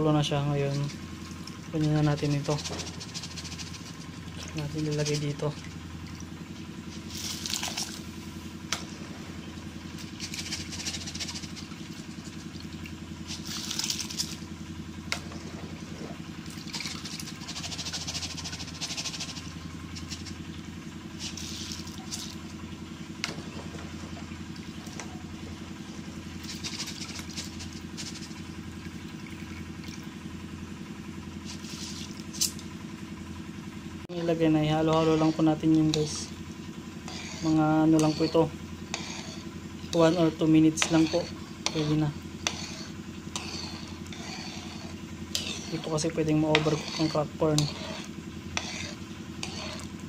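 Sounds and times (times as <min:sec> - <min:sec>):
low hum: 0:00.0 - 0:50.0
wet grain and draining water: 0:00.1 - 0:30.4, 0:34.5 - 0:50.0.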